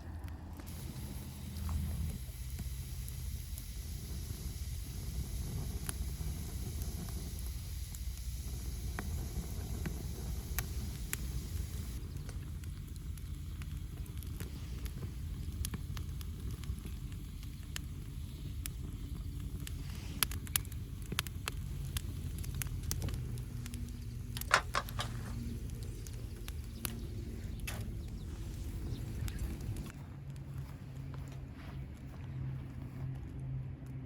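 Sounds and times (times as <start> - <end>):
campfire crackling and popping: 0.0 - 34.0
low rumble: 0.0 - 34.0.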